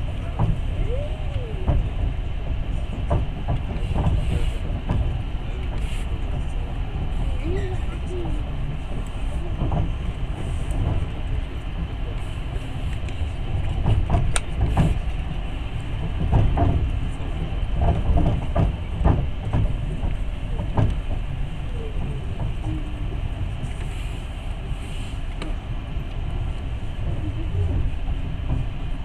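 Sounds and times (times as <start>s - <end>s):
train carriage rumble: 0.0s - 29.0s
wheels clacking over rail joints: 0.0s - 29.0s.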